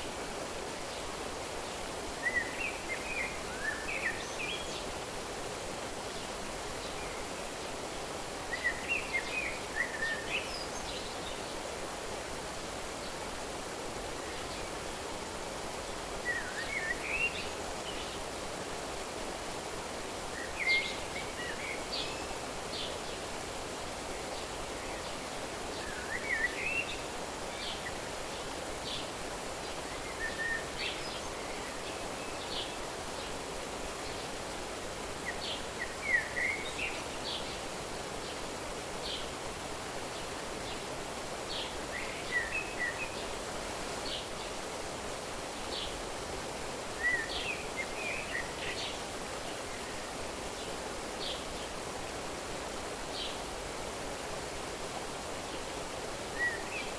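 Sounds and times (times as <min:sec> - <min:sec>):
soft rushing hiss: 0:00.0 - 0:56.9
songbirds chirping: 0:00.0 - 0:56.9.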